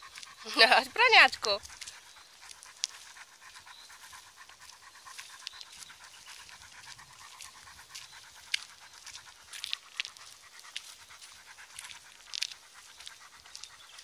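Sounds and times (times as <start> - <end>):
dog panting: 0.0 - 14.0
sharp ticks: 0.1 - 14.0.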